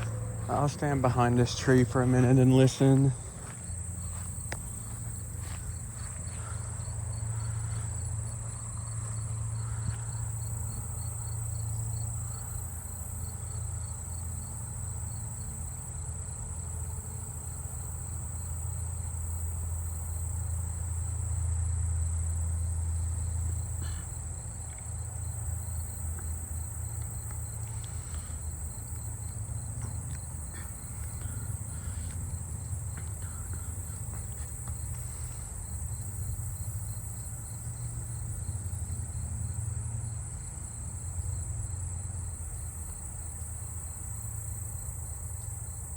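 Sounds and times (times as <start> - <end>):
crickets trilling: 0.0 - 45.9
insects pulsed chirping: 0.0 - 45.9
low steady rumble: 0.0 - 45.9.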